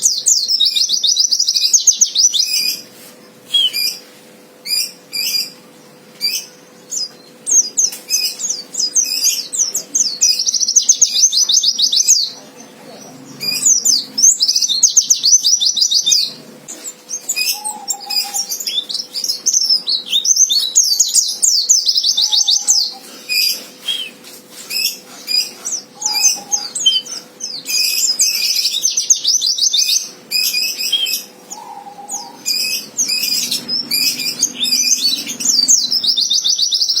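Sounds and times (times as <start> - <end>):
bird singing trilled phrases: 0.0 - 2.8, 3.5 - 4.0, 4.6 - 24.2, 24.8 - 37.0.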